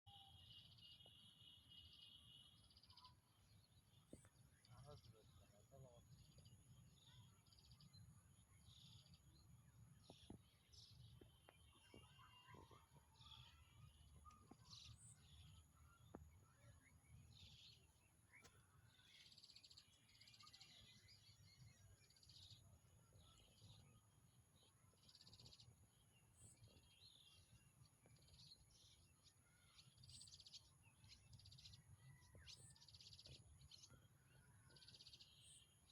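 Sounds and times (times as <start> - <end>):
birds chirping: 0.1 - 35.9.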